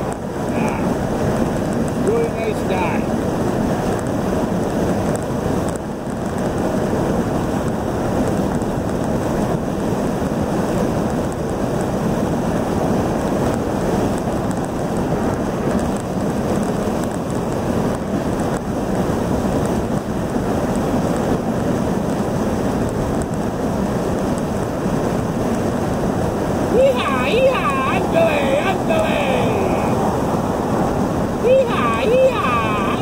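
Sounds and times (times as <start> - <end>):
wind and road noise in car: 0.0 - 33.0.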